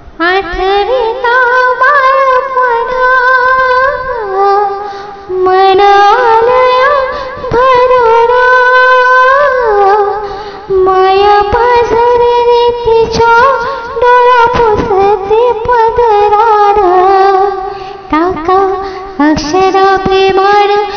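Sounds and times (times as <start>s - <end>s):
woman singing: 0.2s - 20.9s.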